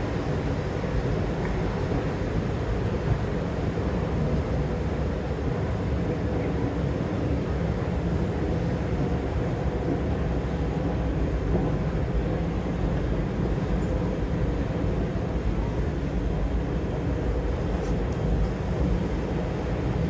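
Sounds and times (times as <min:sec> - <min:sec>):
escalator rumble and hum: 0:00.0 - 0:20.0.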